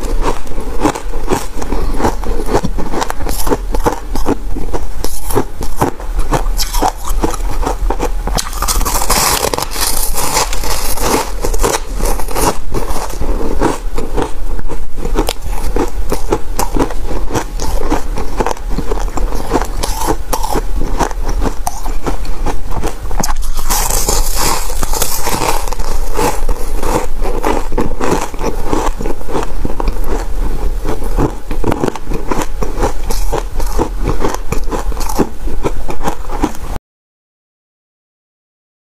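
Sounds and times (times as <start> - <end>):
ice crunching while chewed: 0.0 - 36.6.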